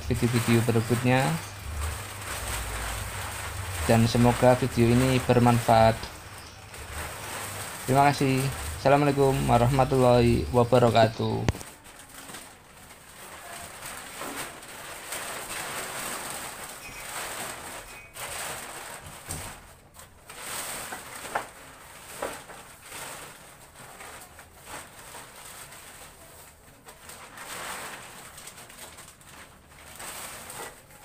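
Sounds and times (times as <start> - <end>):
plastic sharp crackles: 0.0 - 31.0
plastic sheeting rustling: 0.0 - 31.0.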